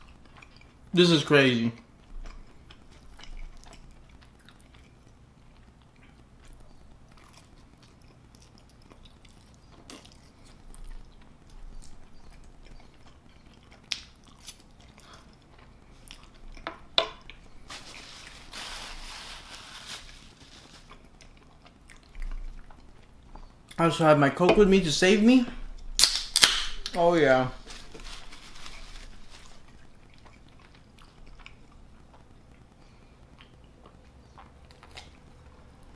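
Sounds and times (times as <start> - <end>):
person chewing food: 0.0 - 0.9, 1.8 - 23.8, 27.7 - 35.9.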